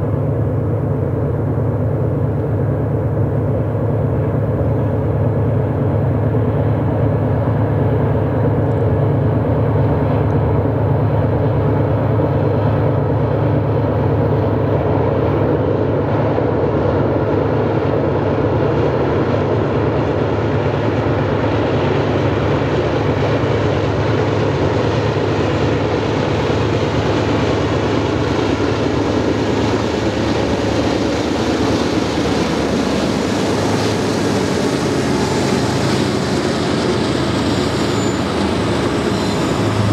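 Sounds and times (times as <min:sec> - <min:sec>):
diesel locomotive engines droning: 0:00.0 - 0:39.9
train wheels rumbling on rail: 0:00.0 - 0:39.9.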